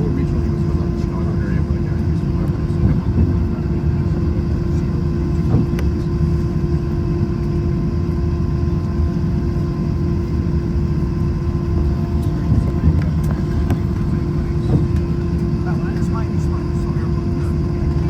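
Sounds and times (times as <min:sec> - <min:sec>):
constant hum: 0:00.0 - 0:18.0
jet engine cabin rumble: 0:00.0 - 0:18.0.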